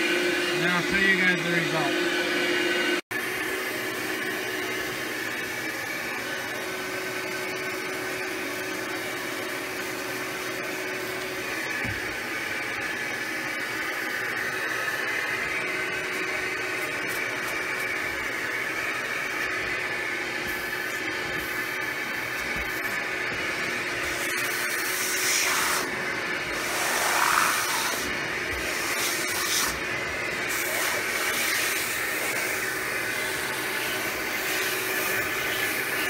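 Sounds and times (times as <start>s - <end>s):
vacuum motor whooshing: 0.0s - 36.0s.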